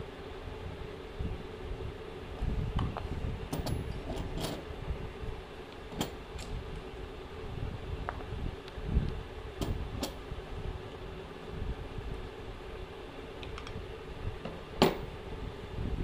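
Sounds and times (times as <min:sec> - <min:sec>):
low background hum: 0:00.0 - 0:16.0
handling rumble: 0:01.2 - 0:16.0.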